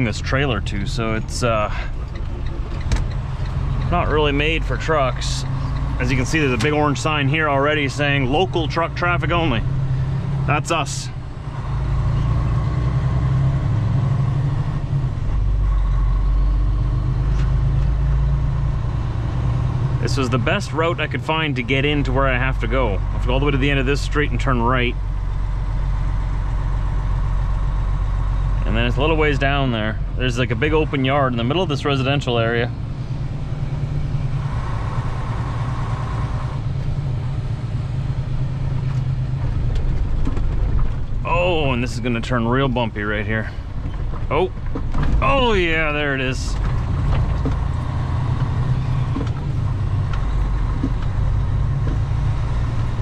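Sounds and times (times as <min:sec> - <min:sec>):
road noise: 0:00.0 - 0:53.0
truck diesel engine droning: 0:00.0 - 0:53.0.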